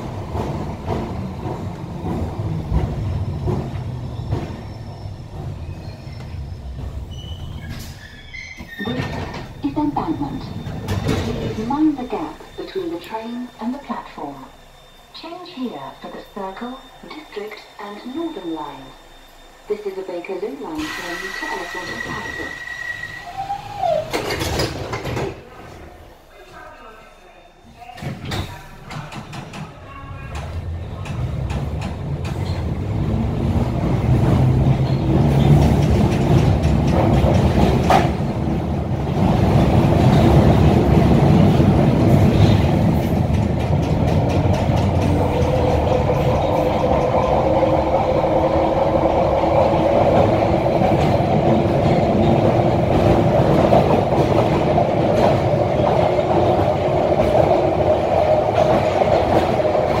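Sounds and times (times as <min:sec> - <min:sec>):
train whine: 0:00.0 - 0:27.7, 0:30.4 - 1:00.0
train rumbling through tunnel: 0:00.0 - 1:00.0.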